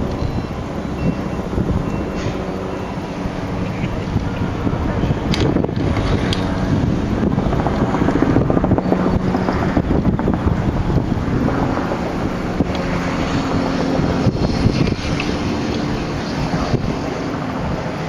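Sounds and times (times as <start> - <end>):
freight train rumbling past: 0.0 - 18.0
wind buffeting microphone: 0.0 - 18.0.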